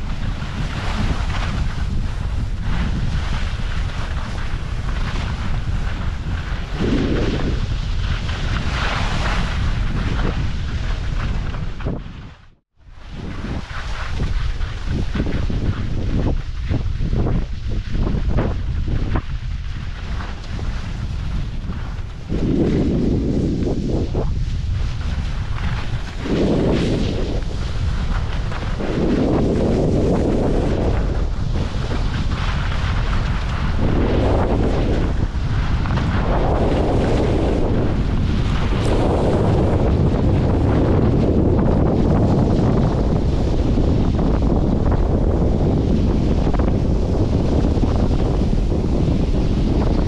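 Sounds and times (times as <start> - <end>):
skis scraping through snow: 0.0 - 50.0
wind buffeting microphone: 0.0 - 50.0.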